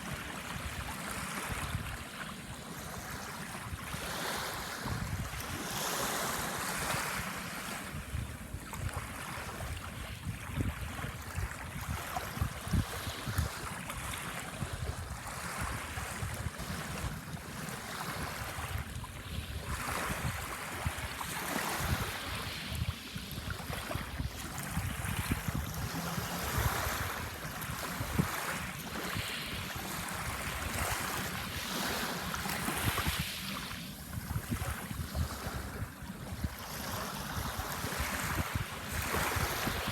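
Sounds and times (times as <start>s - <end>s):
small waves washing onto sand: 0.0s - 39.9s
wind buffeting microphone: 2.8s - 39.9s.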